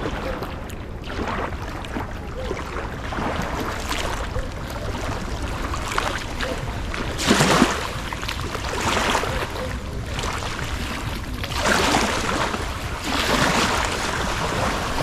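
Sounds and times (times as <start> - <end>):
river waves washing against bank: 0.0 - 15.0
strong wind rumbling: 0.0 - 15.0.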